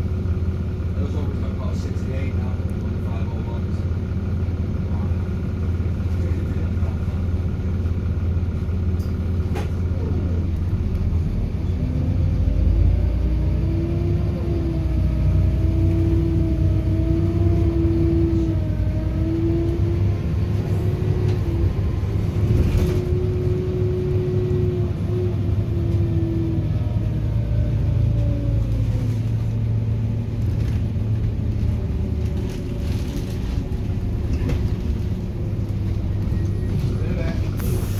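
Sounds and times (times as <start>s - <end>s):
bus engine rumble: 0.0s - 37.9s
bus whine: 0.0s - 37.9s.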